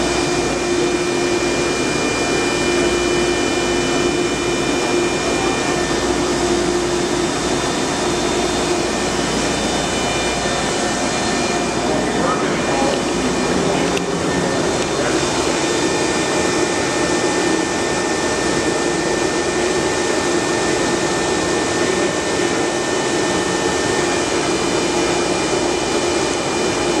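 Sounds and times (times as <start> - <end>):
grinding machine hum and whine: 0.0 - 27.0.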